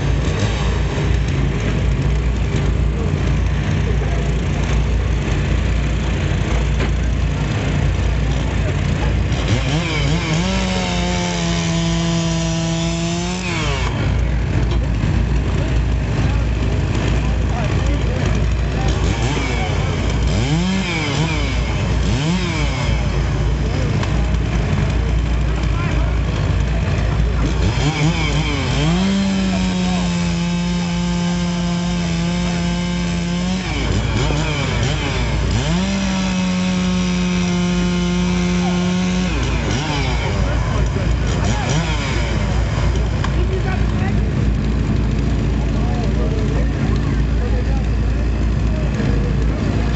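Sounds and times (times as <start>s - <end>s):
chainsaw revving: 0.0s - 49.9s
low engine rumble: 0.0s - 49.9s.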